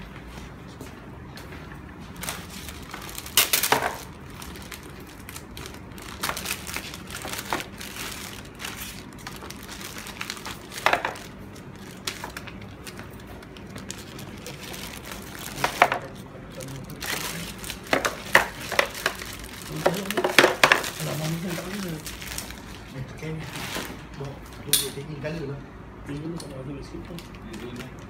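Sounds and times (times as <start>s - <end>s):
plastic bags crinkling: 2.1s - 24.7s.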